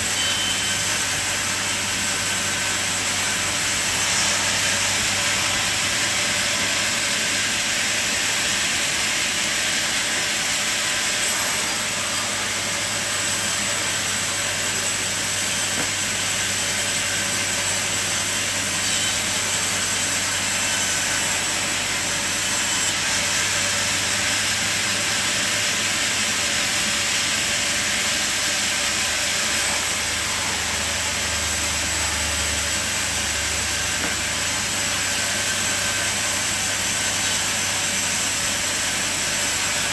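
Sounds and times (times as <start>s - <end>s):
saw hissing cutting timber: 0.0s - 39.9s.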